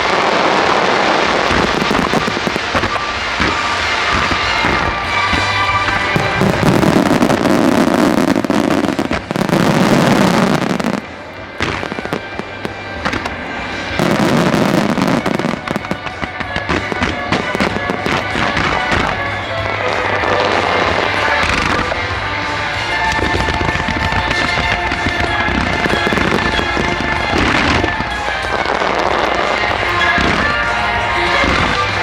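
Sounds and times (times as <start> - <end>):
fireworks bursting and crackling: 0.0 - 32.0
music playing: 0.0 - 32.0.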